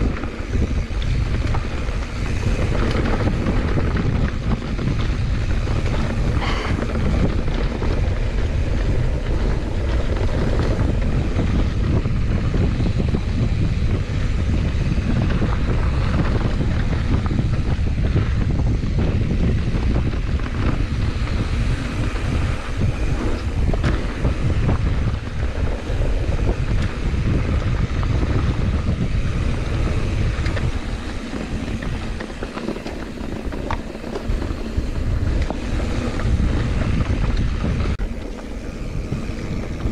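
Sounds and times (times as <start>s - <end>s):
bike clicks and knocks: 0.0s - 39.9s
tyre noise on dirt: 0.0s - 39.9s
wind rumbling over microphone: 0.0s - 39.9s.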